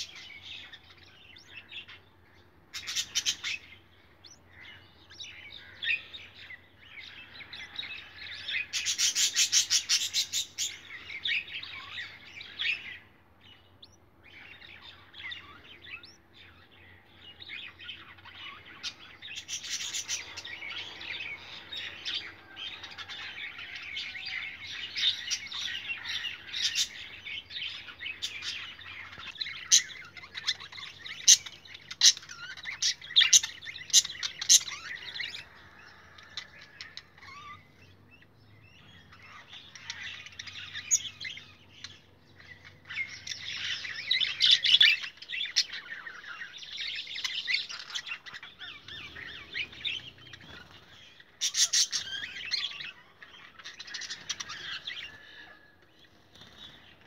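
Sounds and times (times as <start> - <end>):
budgerigars chirping: 2.7 - 13.1, 13.8 - 55.5.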